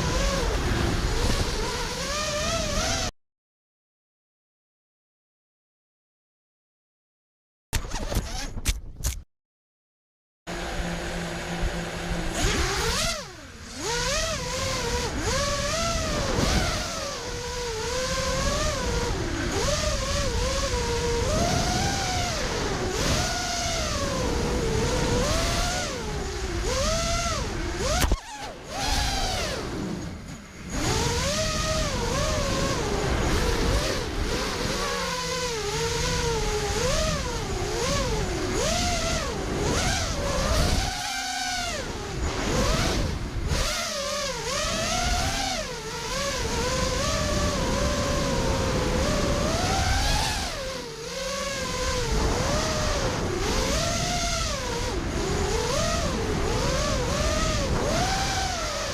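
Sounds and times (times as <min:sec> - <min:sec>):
drone motors whining: 0:00.0 - 0:03.1, 0:10.5 - 0:58.9.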